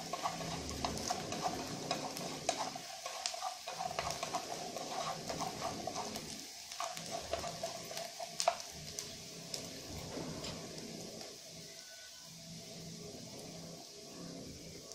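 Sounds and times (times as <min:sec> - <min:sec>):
sausage sizzling in pan: 0:00.0 - 0:14.9.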